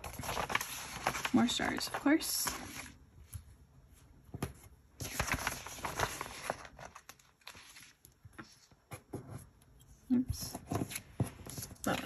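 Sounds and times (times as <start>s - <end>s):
sticker paper rustling: 0.0s - 3.4s, 4.4s - 9.5s, 10.4s - 12.0s.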